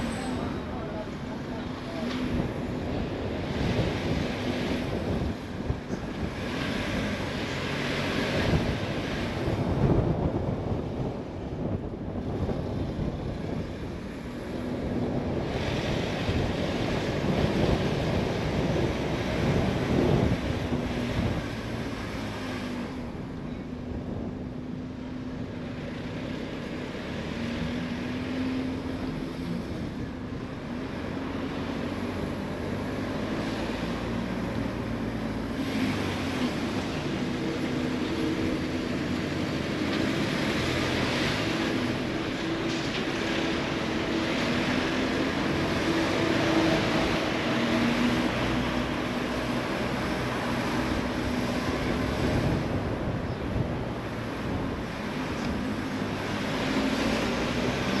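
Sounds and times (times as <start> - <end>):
tyre and wind noise: 0.0 - 58.0.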